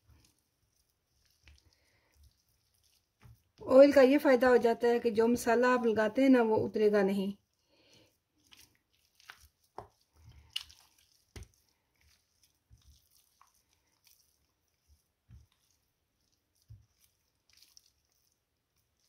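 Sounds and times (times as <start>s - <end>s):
hands squelching marinade into chicken: 0.0s - 4.4s, 7.4s - 19.0s.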